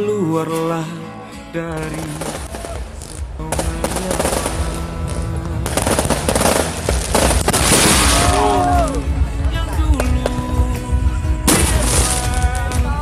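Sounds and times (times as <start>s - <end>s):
background music: 0.0s - 13.0s
fireworks crackling bangs: 1.7s - 13.0s.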